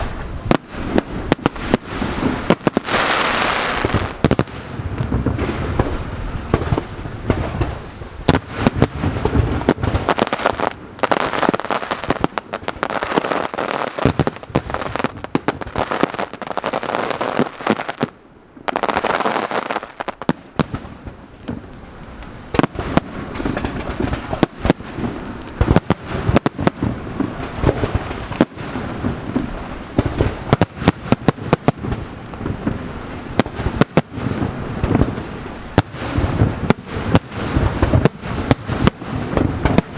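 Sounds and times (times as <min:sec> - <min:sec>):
firework crackling: 0:00.0 - 0:39.9.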